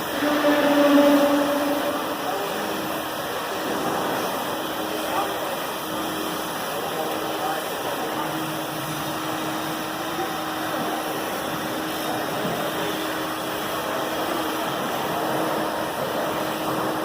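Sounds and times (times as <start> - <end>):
industrial vacuum running: 0.0 - 17.0.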